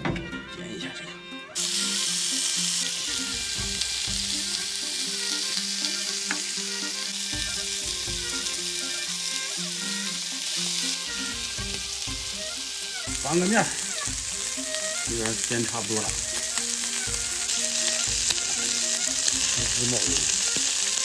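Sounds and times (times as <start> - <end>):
sausage sizzling in a pan: 1.5 - 21.0.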